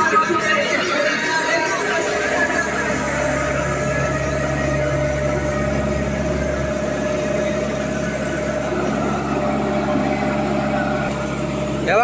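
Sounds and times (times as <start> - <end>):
diesel engine running steadily: 0.0 - 12.0
steady whine: 0.0 - 12.0.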